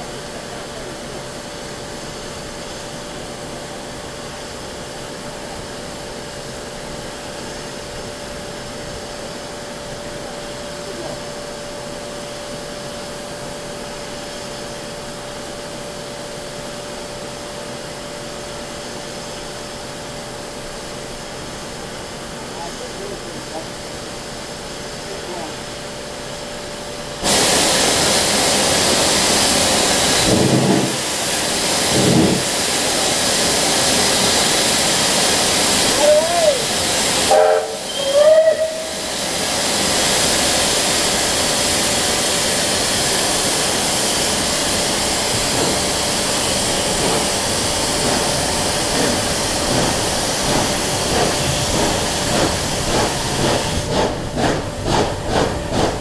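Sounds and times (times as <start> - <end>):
steam locomotive hissing steam: 0.0 - 56.0.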